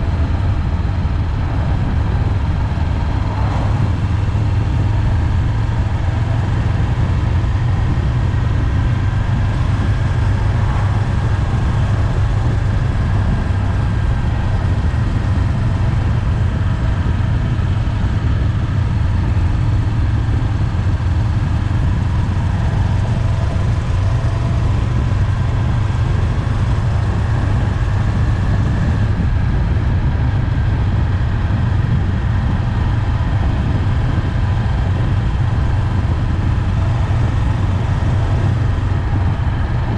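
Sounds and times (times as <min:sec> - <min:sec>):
motorcycle engine droning: 0:00.0 - 0:39.9
road and wind noise: 0:00.0 - 0:39.9.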